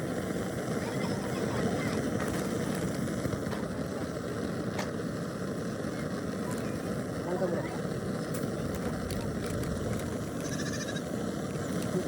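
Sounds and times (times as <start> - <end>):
low engine-like rumbling: 0.0 - 12.0.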